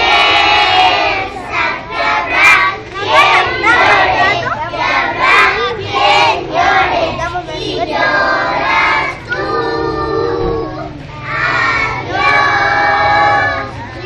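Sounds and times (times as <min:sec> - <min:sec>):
children singing: 0:00.0 - 0:14.0.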